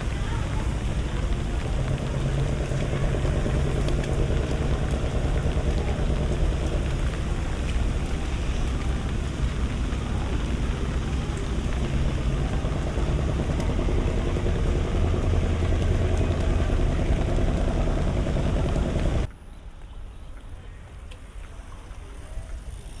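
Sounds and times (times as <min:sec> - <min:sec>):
engine and traffic rumble: 0:00.0 - 0:23.0.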